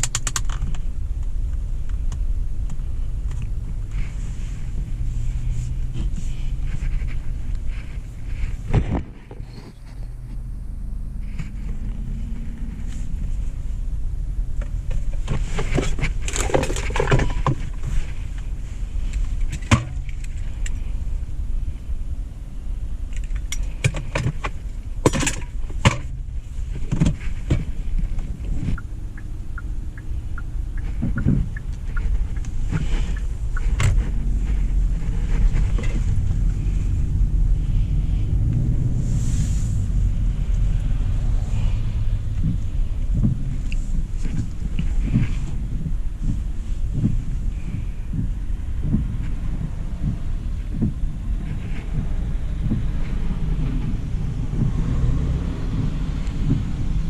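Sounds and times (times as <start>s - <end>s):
car cabin rumble: 0.0s - 57.0s.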